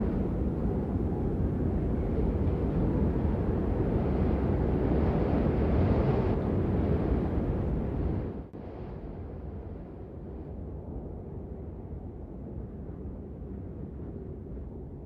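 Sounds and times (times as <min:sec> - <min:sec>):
wind rushing rumble: 0:00.0 - 0:15.0.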